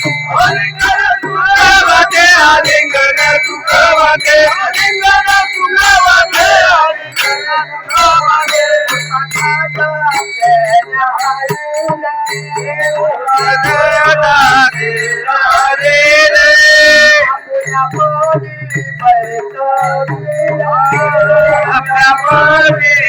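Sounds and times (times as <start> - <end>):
rhythmic percussive beat: 0.0 - 23.0.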